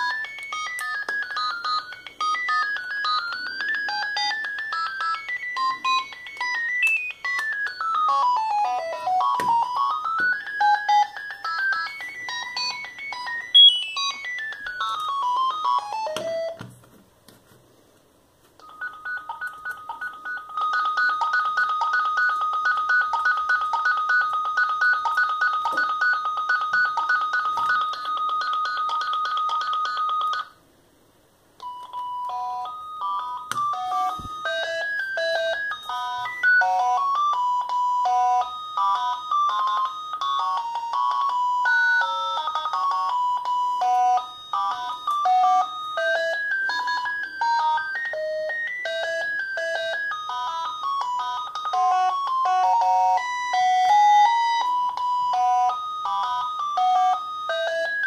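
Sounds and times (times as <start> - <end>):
mobile phone ringtones: 0.0 - 16.6, 18.6 - 30.6, 31.6 - 58.0.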